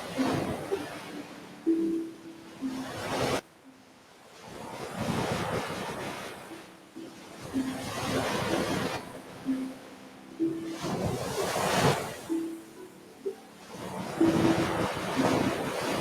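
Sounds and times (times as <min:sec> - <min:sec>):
waves breaking on a beach: 0:00.0 - 0:16.0.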